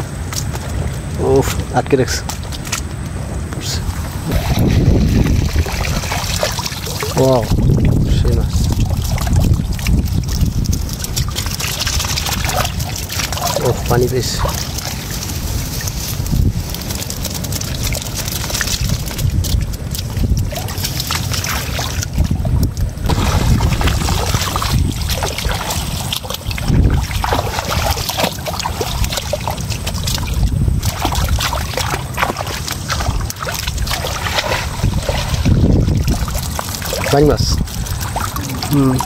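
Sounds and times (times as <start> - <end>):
water splashing and sloshing: 0.0 - 39.0
wind buffeting microphone: 0.0 - 39.0.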